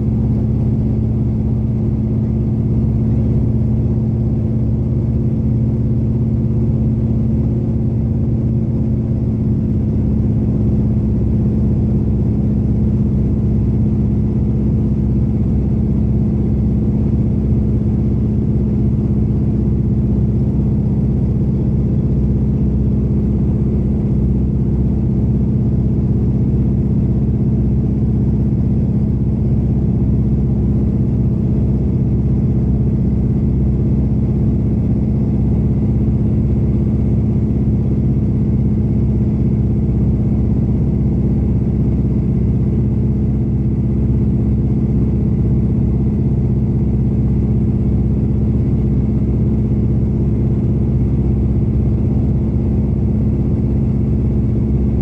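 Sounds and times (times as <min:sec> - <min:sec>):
radial aircraft engine droning: 0:00.0 - 0:55.0.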